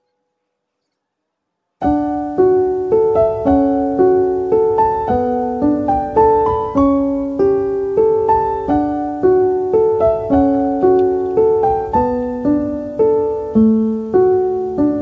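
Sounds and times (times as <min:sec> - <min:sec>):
gentle piano melody: 0:01.8 - 0:15.0.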